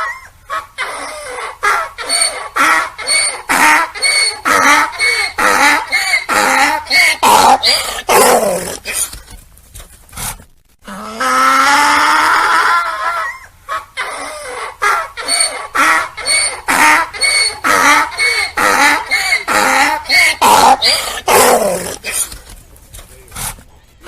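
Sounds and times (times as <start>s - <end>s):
donkey braying: 0.0s - 9.2s, 10.9s - 22.6s.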